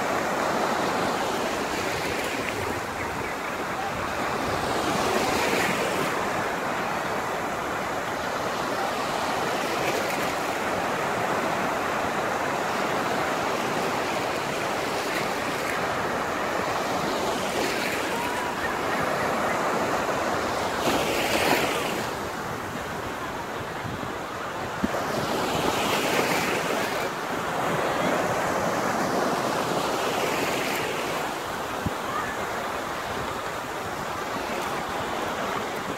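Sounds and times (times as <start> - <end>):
sea waves breaking in shallow surf: 0.0 - 35.9.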